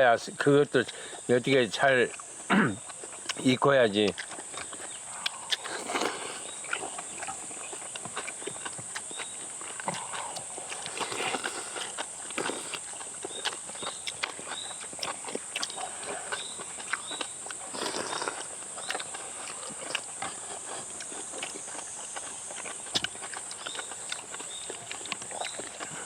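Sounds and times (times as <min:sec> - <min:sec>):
steady high-pitched hiss: 0:00.0 - 0:26.0
person chewing: 0:00.8 - 0:26.0.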